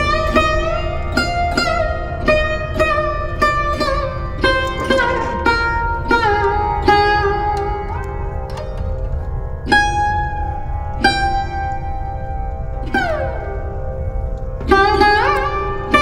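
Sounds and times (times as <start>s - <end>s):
low steady drone: 0.0s - 16.0s
plucked string instrument: 0.0s - 16.0s.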